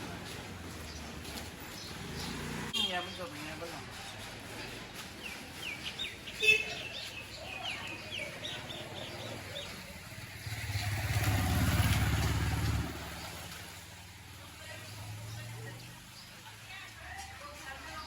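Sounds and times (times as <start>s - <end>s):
motor vehicle engine: 0.0s - 17.2s.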